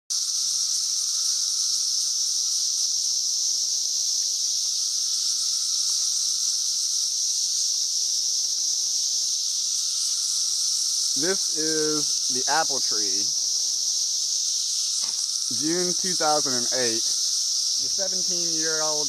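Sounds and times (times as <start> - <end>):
cicadas droning: 0.1 - 19.0.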